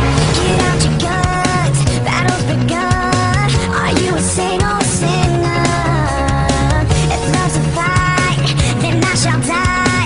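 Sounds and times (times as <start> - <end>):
rock song: 0.0 - 10.0.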